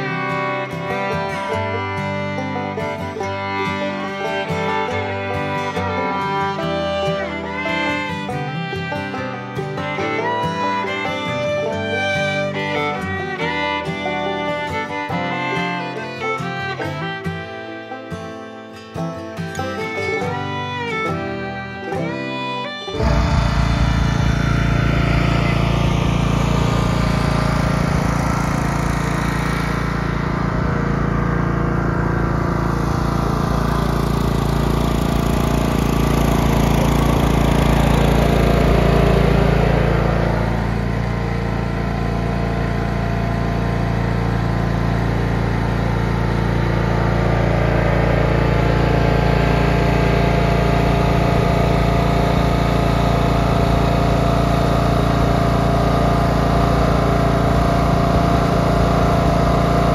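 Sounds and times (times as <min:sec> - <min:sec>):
riding lawn mower engine: 0:00.0 - 0:59.9.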